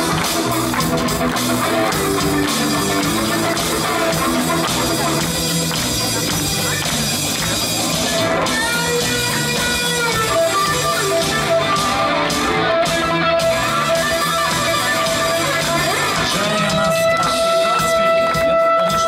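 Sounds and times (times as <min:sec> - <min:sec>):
guitar solo with pitch bends: 0:00.0 - 0:19.0.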